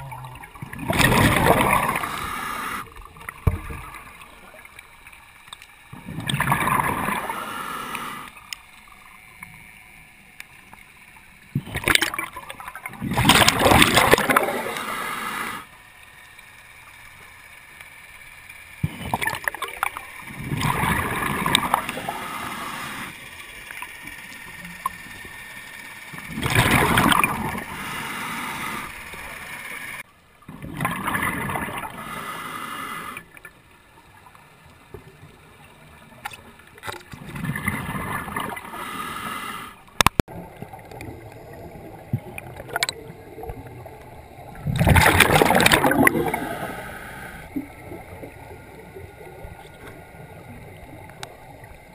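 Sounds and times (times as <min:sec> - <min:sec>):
underwater bubbles gurgling: 0:00.0 - 0:51.9.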